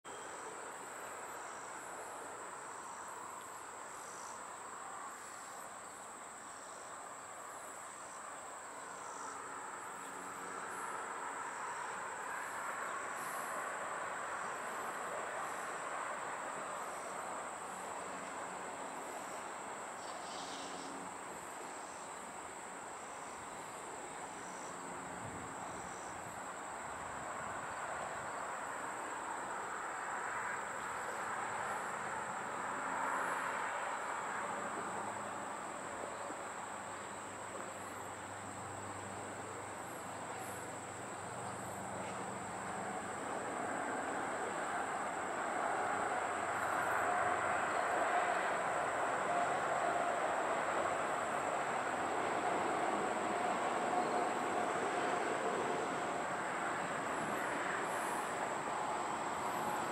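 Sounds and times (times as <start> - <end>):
insect chirps: 0.1 - 59.9
insects droning: 0.1 - 59.9.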